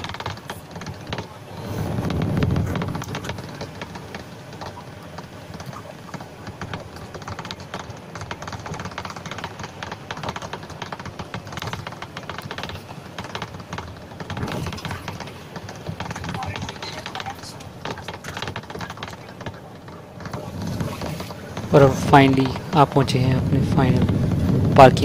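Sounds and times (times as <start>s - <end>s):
clicks and knocks: 0.0s - 24.8s
car rumbling on rough road: 0.0s - 25.0s.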